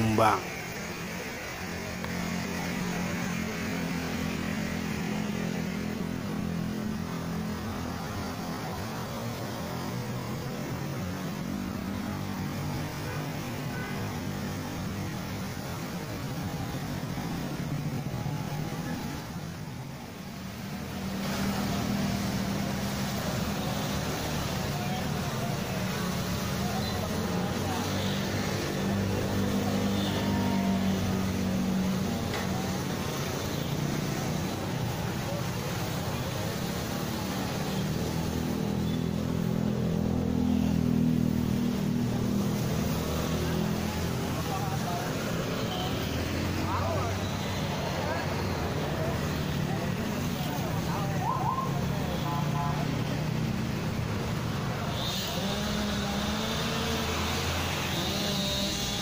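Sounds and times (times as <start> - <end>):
street noise: 0.0 - 59.0.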